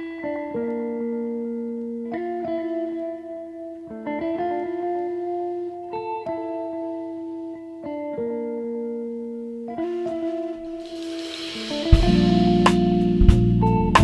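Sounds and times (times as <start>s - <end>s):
slow melody of held notes: 0.0s - 13.9s.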